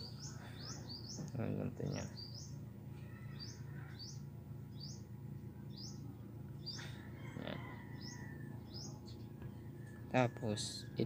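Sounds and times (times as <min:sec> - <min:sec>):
small bird chirping: 0:00.0 - 0:10.9
low background hum: 0:00.0 - 0:11.0.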